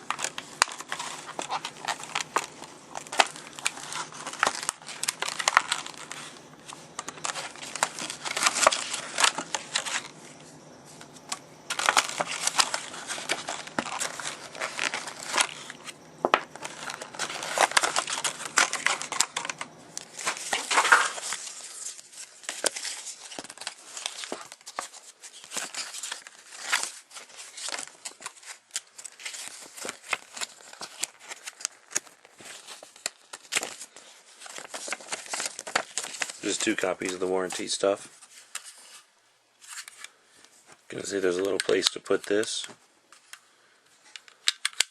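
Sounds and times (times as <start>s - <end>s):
plastic packaging crackling: 0.0s - 39.0s, 39.6s - 43.4s.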